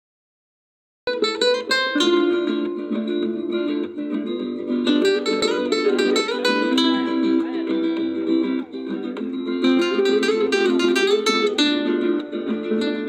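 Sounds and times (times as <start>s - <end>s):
acoustic guitar flamenco rumba: 1.1s - 13.0s.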